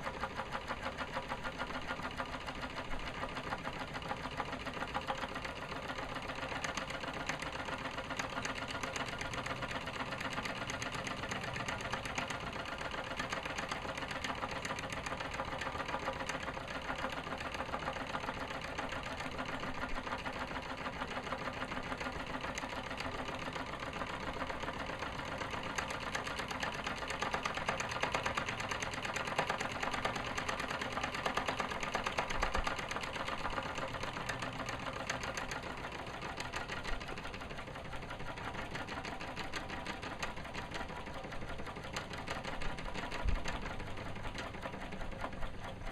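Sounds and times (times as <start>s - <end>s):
model steam engine clattering: 0.0s - 45.9s.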